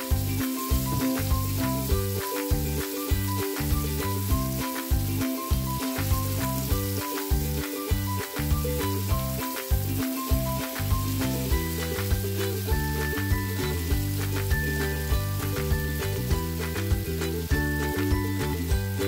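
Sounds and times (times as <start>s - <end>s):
fish sizzling in oil: 0.0s - 18.2s
background music with steady beat: 0.0s - 19.0s.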